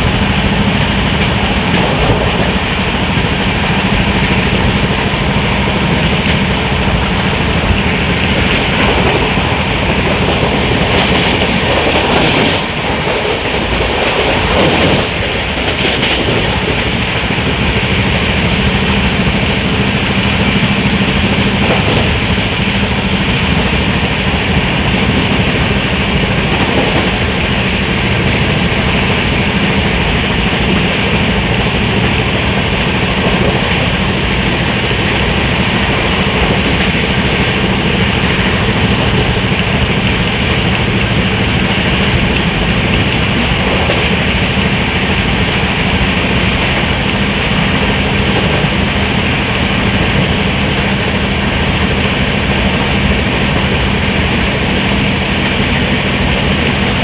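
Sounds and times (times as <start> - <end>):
rushing air: 0.0 - 57.0
train wheels rumbling on rail: 0.0 - 57.0.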